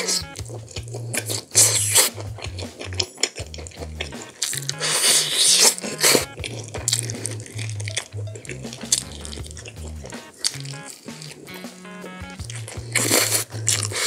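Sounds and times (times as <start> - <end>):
background music with bass line: 0.0 - 14.0
wet chewing and smacking: 0.0 - 14.0.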